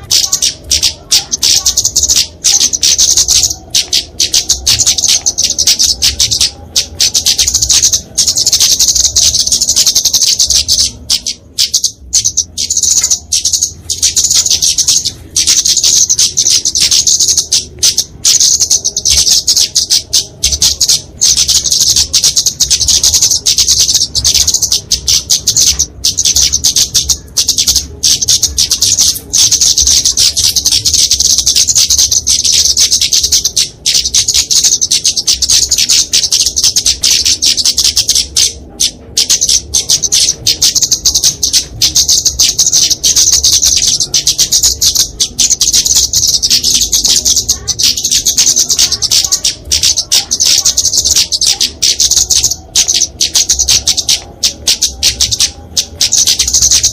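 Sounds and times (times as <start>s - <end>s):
bird chips and trills: 0.0s - 56.9s.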